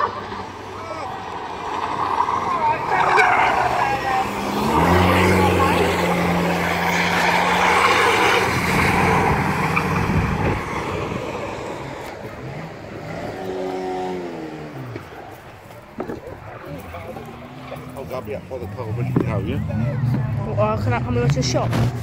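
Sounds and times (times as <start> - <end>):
car engine passing: 0.0 - 22.0
racing car engines droning: 0.0 - 22.0.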